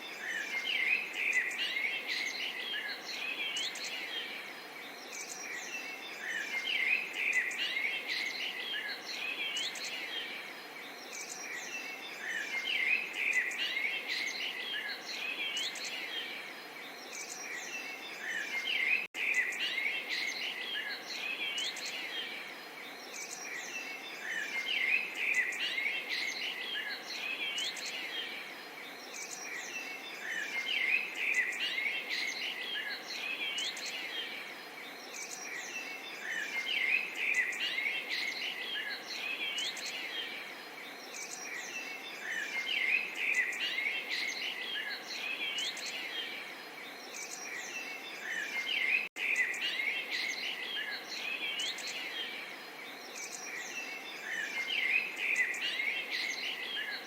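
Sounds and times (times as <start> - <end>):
faint background hiss: 0.0 - 57.0
small birds chirping and singing: 0.0 - 57.0.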